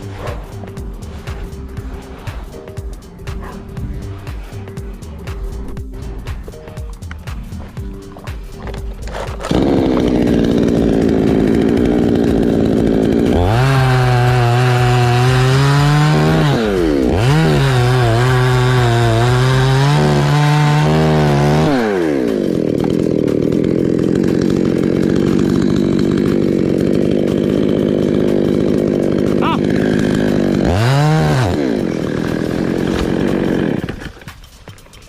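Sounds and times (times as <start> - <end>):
chainsaw revving: 0.0 - 34.8.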